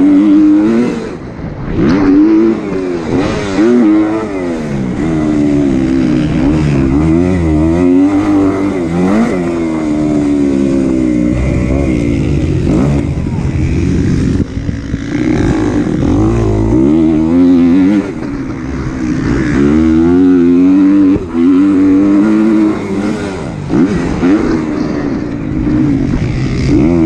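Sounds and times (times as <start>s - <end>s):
motocross engine revving hard: 0.0s - 27.0s.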